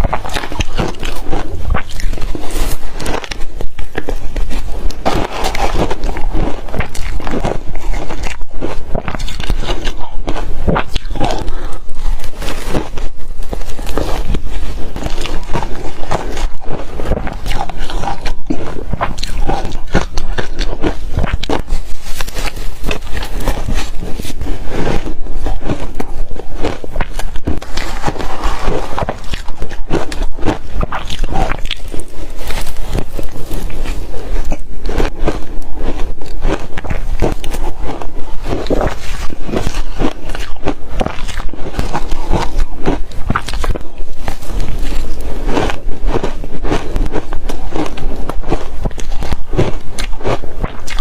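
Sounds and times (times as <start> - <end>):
ice being crunched and chewed: 0.0 - 51.0.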